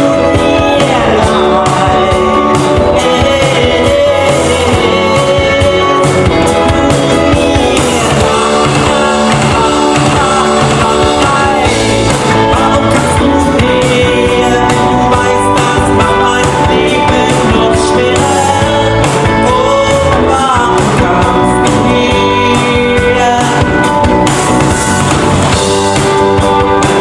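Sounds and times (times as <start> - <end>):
man singing lead vocal: 0.0 - 25.0
bass guitar: 0.0 - 27.0
drums: 0.0 - 27.0
electric guitars: 0.0 - 27.0.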